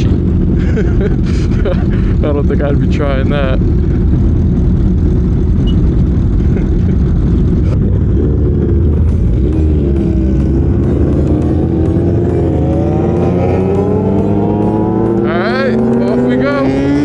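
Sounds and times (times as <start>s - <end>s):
motorcycle engine accelerating: 0.0s - 17.0s
motorcycle engines rumbling: 0.0s - 17.0s.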